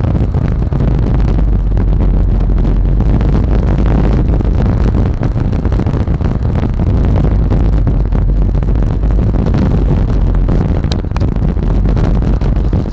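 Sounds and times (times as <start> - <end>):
scooter engine running: 0.0 - 12.9
wind rumble on microphone: 0.0 - 12.9.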